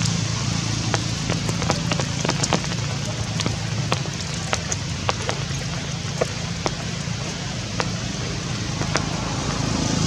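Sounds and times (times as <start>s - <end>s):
low steady hum: 0.0s - 10.0s
steady rain hissing: 0.0s - 10.0s.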